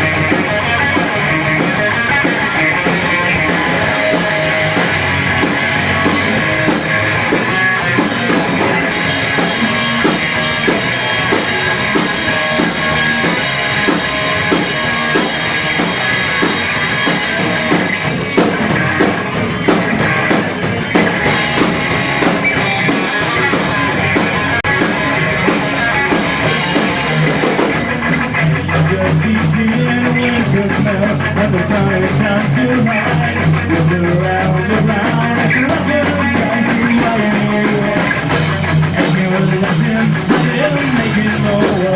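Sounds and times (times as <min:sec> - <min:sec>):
rock band playing: 0:00.0 - 0:41.9.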